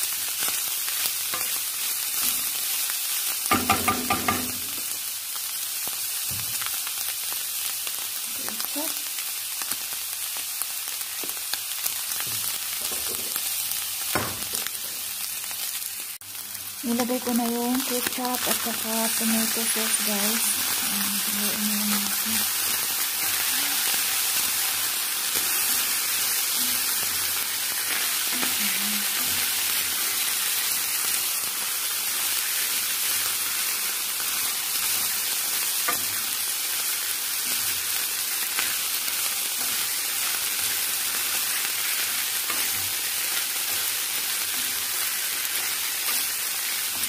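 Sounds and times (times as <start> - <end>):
meat sizzling in a frying pan: 0.0 - 47.0.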